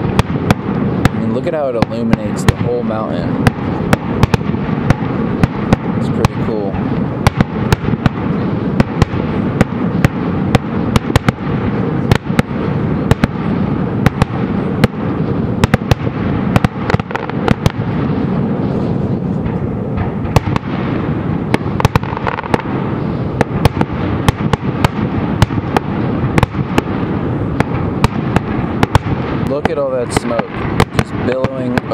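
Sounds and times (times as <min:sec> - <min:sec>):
fireworks bangs and pops: 0:00.0 - 0:31.9
low rumble: 0:00.0 - 0:31.9.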